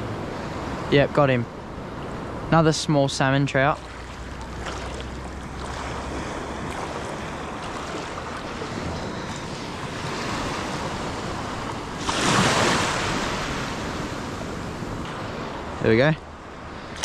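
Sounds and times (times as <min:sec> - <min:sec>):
rush of water: 0:00.0 - 0:17.0
surf lapping: 0:00.0 - 0:17.0.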